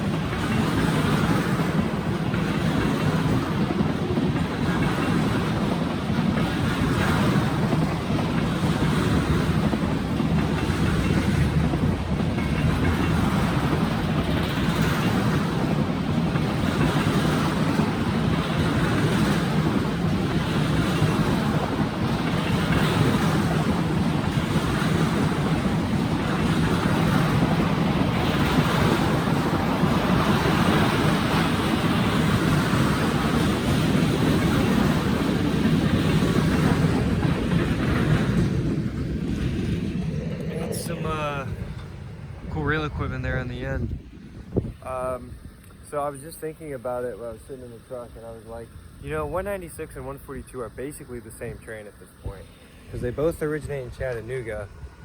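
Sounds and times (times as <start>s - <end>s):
wheels clattering over rails: 0.0s - 47.3s
freight train rumble: 0.0s - 55.0s.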